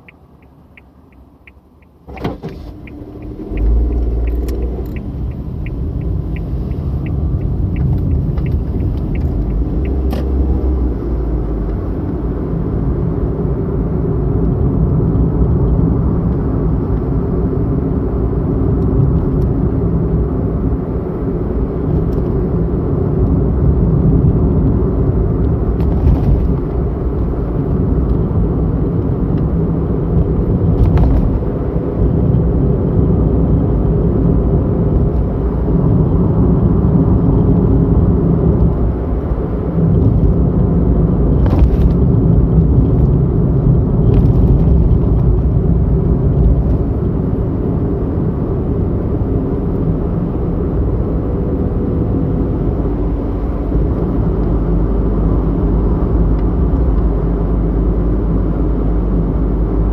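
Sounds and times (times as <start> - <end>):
car road noise rumble: 0.0 - 59.9.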